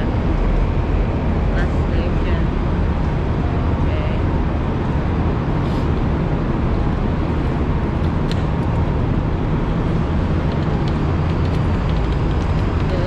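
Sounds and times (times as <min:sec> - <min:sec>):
road noise hiss: 0:00.0 - 0:13.0
vehicle engine rumble: 0:00.0 - 0:13.0.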